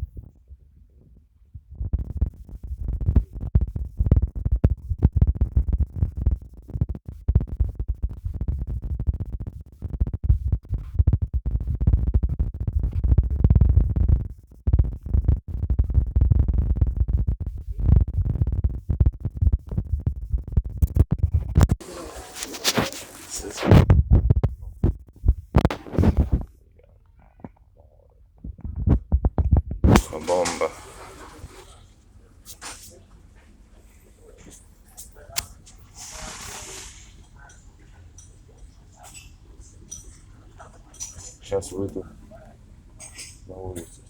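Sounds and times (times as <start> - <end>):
microphone handling rubbing noise: 0.0 - 44.0.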